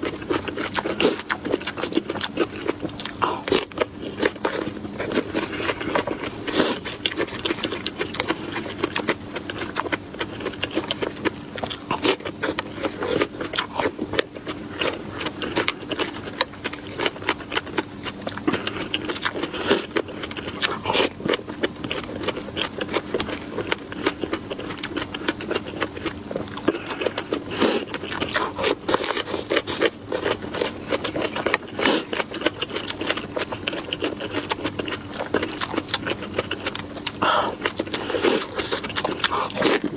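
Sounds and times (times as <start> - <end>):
faint steady hum: 0.0 - 39.9
mouth crunching and chewing food: 0.0 - 39.9.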